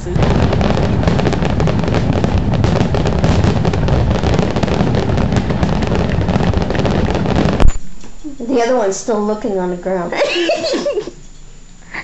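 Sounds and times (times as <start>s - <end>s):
low rumble: 0.0s - 10.0s
fireworks crackling and banging: 0.0s - 11.2s.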